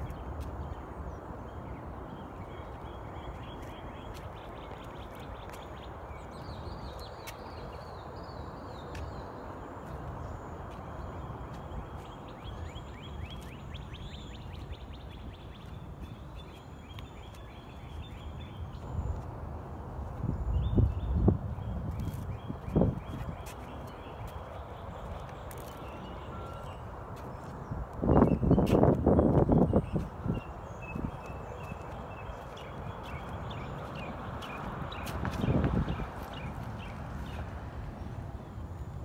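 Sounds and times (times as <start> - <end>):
songbirds chirping trills: 0.0 - 39.0.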